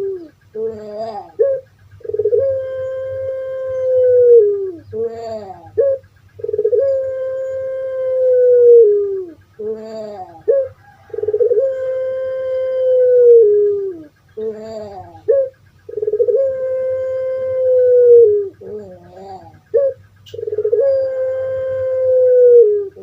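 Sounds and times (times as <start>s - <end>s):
dove long crowing coo: 0.0s - 23.0s
short wavering coos: 0.0s - 23.0s.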